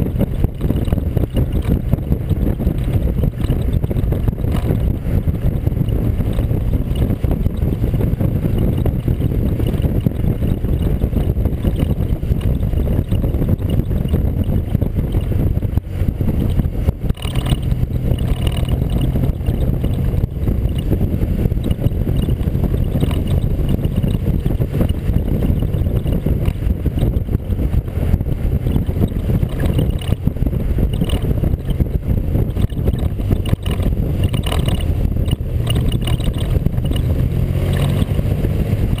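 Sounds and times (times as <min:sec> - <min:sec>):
vehicle engine drone: 0:00.0 - 0:39.0
wind buffeting microphone: 0:00.0 - 0:39.0.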